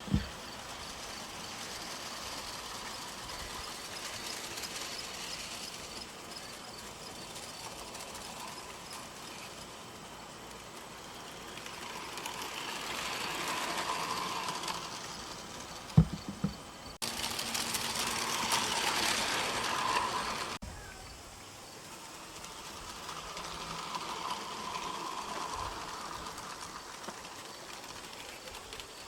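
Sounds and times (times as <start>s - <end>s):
model train motor and wheels: 0.0s - 29.0s.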